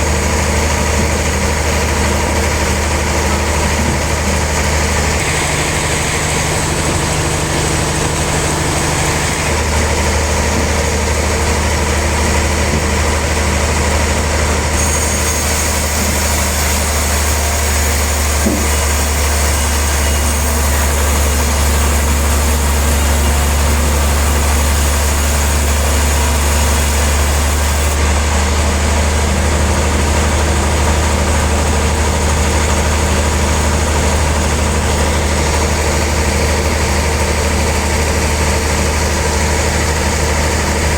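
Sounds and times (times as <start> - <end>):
sawmill machinery sawing log: 0.0 - 40.9.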